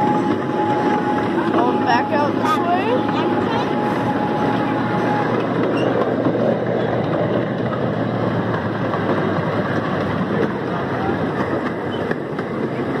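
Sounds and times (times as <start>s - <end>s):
miniature train running on track: 0.0s - 13.0s.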